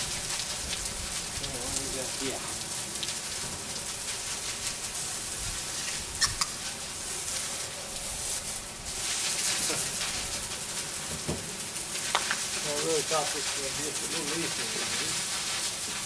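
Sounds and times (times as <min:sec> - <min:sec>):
hose water spraying on roof: 0:00.0 - 0:16.0.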